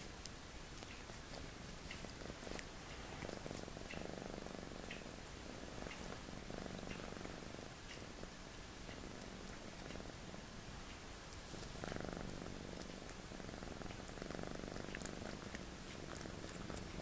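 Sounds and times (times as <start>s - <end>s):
cat purring: 0.7s - 17.0s.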